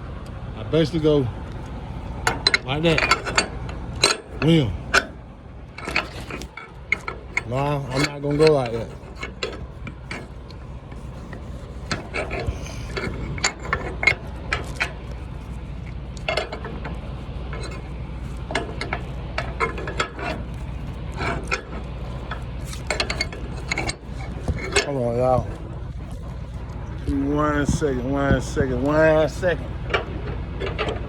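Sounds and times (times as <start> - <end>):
steady low hum: 0.0 - 31.0
ratchet strap clicking: 1.5 - 27.1.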